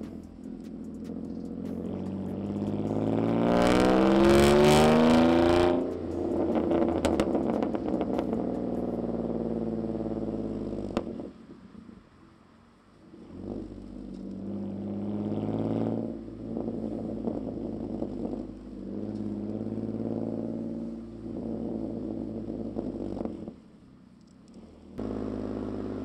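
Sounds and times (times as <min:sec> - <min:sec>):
car engine and exhaust revving: 0:00.0 - 0:26.0.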